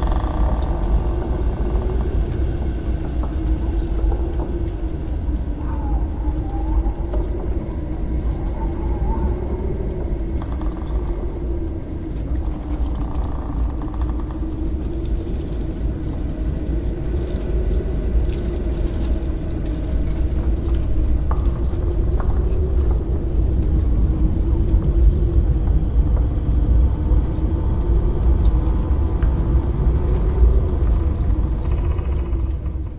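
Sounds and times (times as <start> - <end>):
deep rumble: 0.0 - 32.9
low wavering drone: 0.0 - 32.9.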